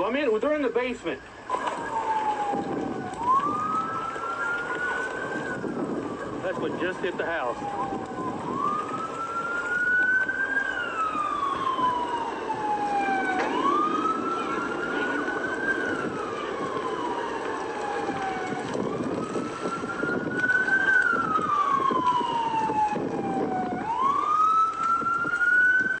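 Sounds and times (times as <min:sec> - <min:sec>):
noisy background: 0:00.0 - 0:26.0
siren wailing: 0:00.8 - 0:26.0.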